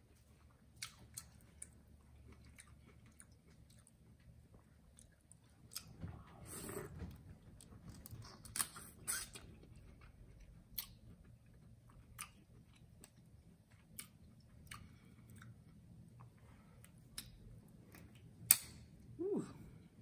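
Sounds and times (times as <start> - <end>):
person chewing: 0.3 - 6.0, 7.6 - 18.6.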